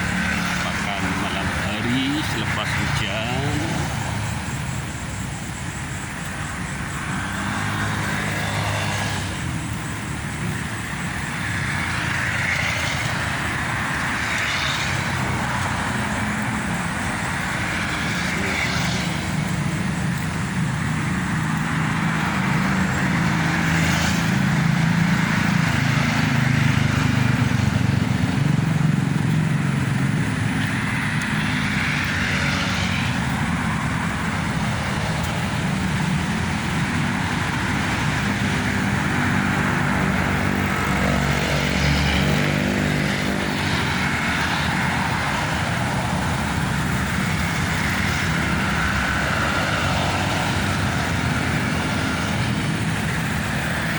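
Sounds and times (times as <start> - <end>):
road traffic passing: 0.0 - 53.9.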